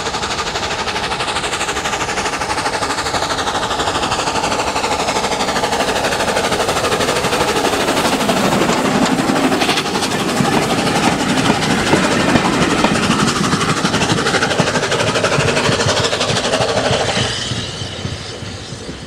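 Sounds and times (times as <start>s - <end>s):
carriages clattering over rail joints: 0.0s - 19.0s
steam engine exhaust beats: 0.0s - 19.0s.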